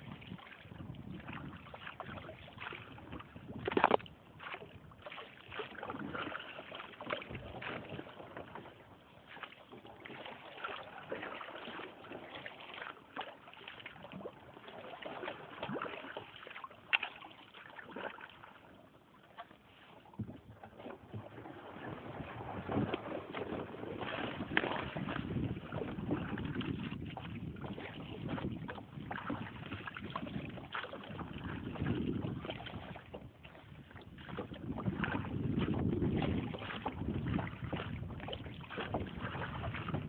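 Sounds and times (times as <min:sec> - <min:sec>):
paddle splashing in water: 0:00.0 - 0:40.0.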